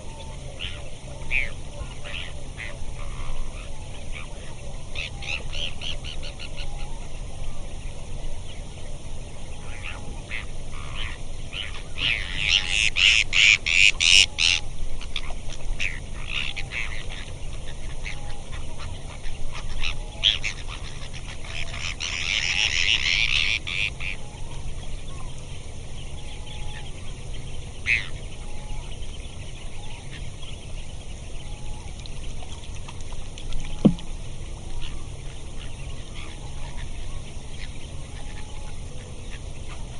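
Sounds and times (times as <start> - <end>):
waterbirds calling: 0.0 - 39.9.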